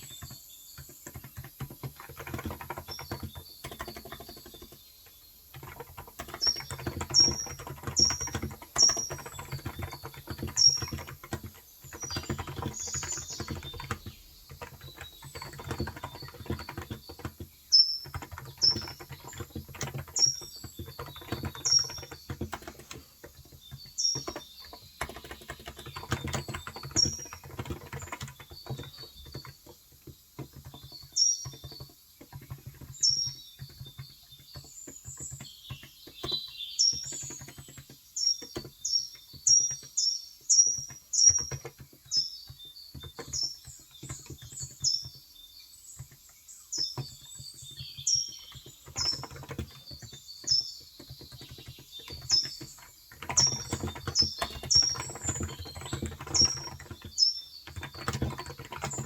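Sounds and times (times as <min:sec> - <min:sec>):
bird chirping: 0:00.0 - 0:59.0
soft keyboard typing: 0:00.0 - 0:59.0.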